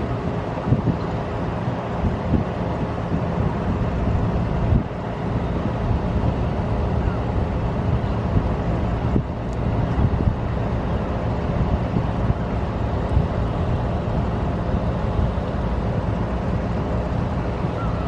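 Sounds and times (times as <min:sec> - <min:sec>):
boat engines rumbling: 0:00.0 - 0:18.0.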